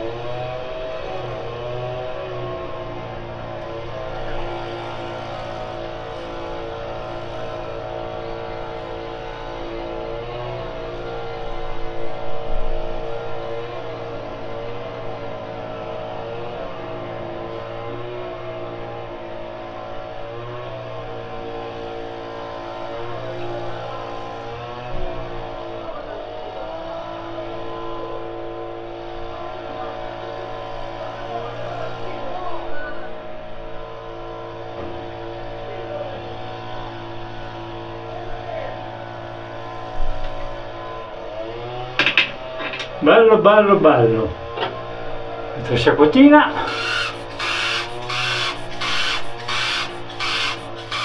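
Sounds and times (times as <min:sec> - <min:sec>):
small petrol engine running: 0:00.0 - 0:51.0.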